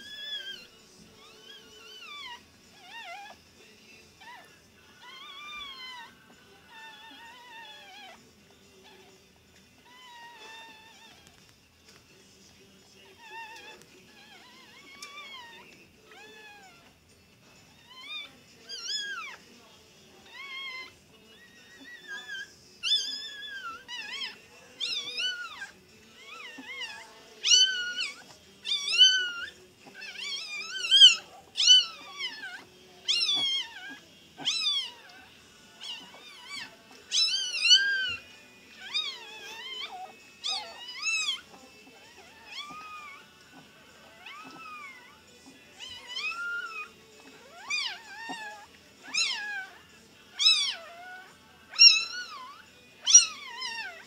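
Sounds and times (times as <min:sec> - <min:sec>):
puppies squealing: 0:00.0 - 0:11.5, 0:12.1 - 0:54.0.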